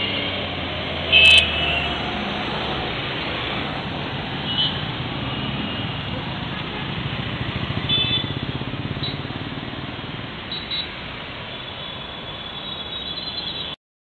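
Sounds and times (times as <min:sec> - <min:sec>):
traffic engines and road noise: 0:00.0 - 0:13.8.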